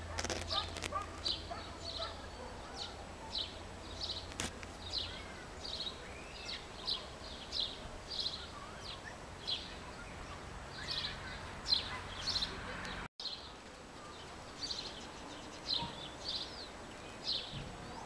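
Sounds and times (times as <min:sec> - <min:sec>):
bird chirping: 0:00.1 - 0:18.0.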